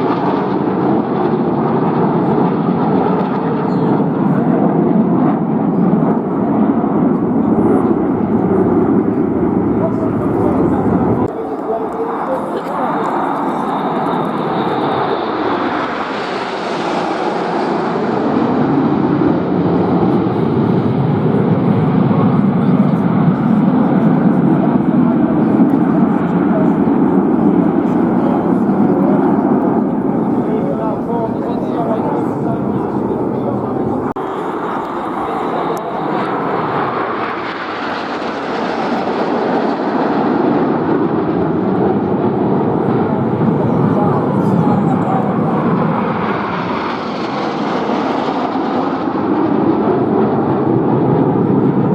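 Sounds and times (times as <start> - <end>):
aircraft engine flying past: 0.0 - 51.9.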